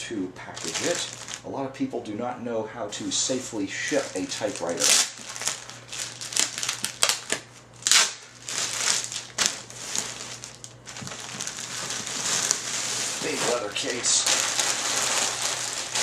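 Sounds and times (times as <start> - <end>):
bubble wrap crinkling: 0.5 - 1.5, 3.8 - 16.0.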